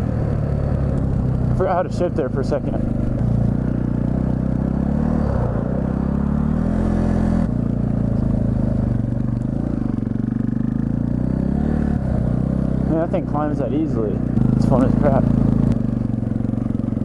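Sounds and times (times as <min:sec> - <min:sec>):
dirt bike engine under load: 0:00.7 - 0:17.0.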